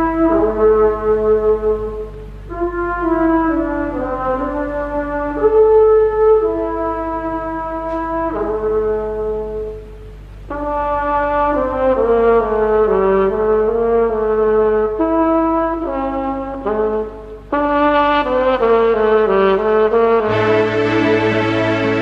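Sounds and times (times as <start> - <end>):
slow brass melody: 0.0 - 22.0.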